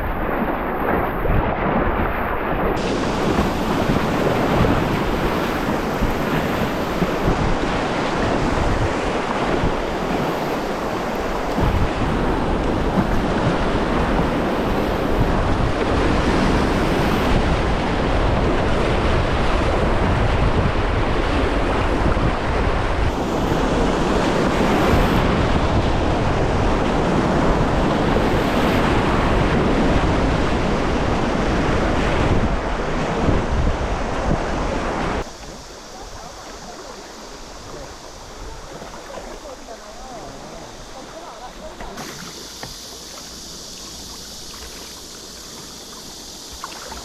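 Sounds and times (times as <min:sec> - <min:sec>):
river water rushing: 0:00.0 - 0:47.0
wind buffeting microphone: 0:00.0 - 0:47.0.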